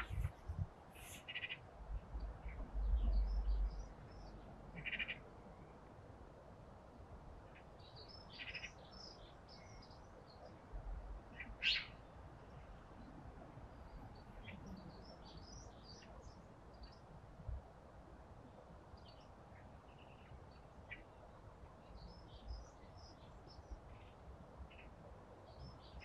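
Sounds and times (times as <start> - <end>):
small birds chirping: 0.0 - 5.7, 7.5 - 10.7, 11.3 - 17.1, 18.9 - 26.0.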